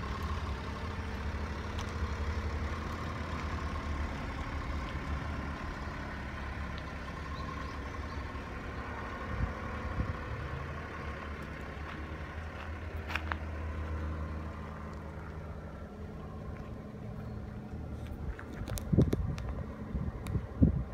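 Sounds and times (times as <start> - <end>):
truck engine idling: 0.0 - 20.9.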